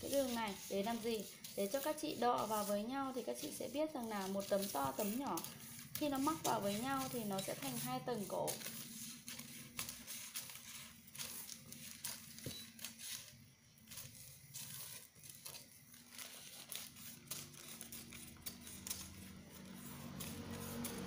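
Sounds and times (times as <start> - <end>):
paper rustling: 0.0 - 21.0
shears cutting paper: 0.0 - 21.0.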